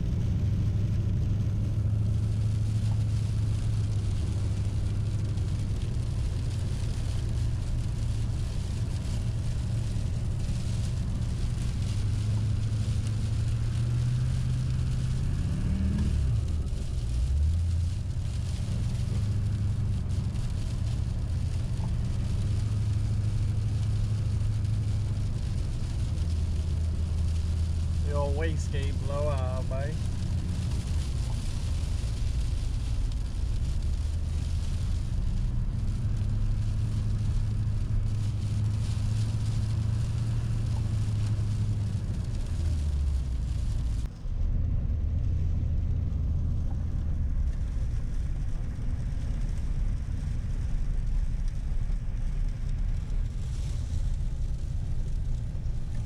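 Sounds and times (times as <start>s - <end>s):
diesel engine droning: 0.0s - 56.0s
road noise: 0.0s - 56.0s.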